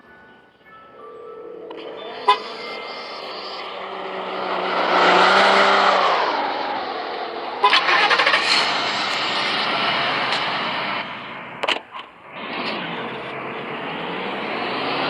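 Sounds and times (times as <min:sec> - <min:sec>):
car passing by: 0:01.7 - 0:11.6, 0:12.2 - 0:15.0.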